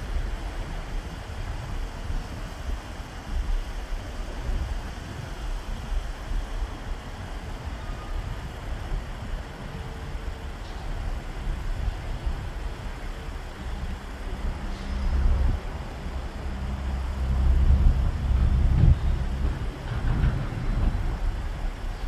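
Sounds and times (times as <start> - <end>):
ship low rumble: 0.0 - 22.0
steady low drone: 0.0 - 22.0.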